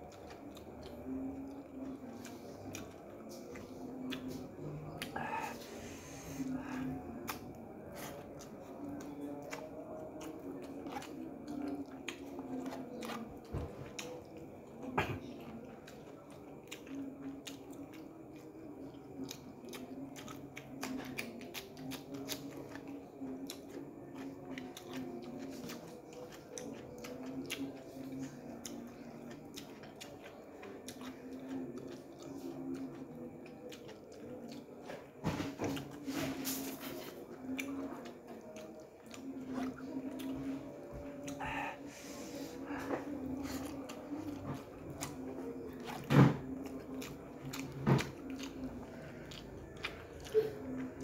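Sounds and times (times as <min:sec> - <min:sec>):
chewing: 0:00.0 - 0:51.0.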